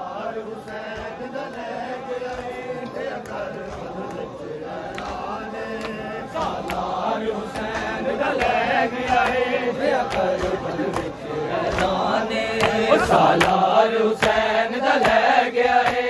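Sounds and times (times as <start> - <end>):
men chanting in chorus: 0.0 - 16.0
hands slapping chests: 0.5 - 16.0.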